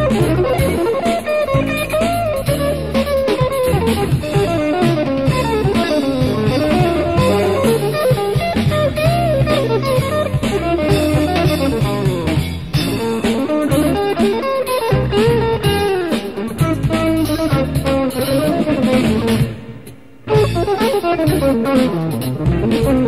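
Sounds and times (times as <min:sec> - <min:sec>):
drum kit: 0:00.0 - 0:23.0
electric bass: 0:00.0 - 0:23.0
electric guitar melodic lines: 0:00.0 - 0:23.0.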